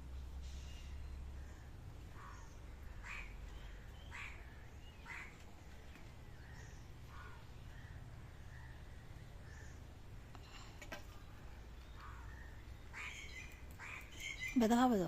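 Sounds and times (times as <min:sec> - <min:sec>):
bird calling: 0:00.4 - 0:09.9, 0:10.5 - 0:14.8.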